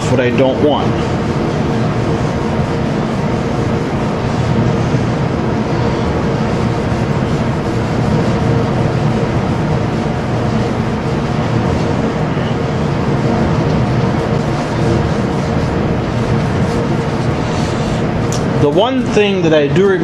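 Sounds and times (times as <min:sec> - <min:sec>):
steady machine drone: 0:00.0 - 0:20.0.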